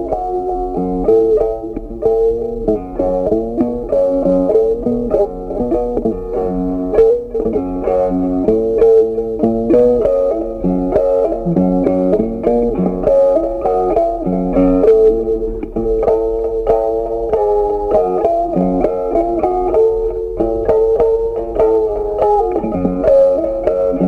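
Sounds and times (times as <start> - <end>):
plucked guitar melody: 0.0 - 24.0.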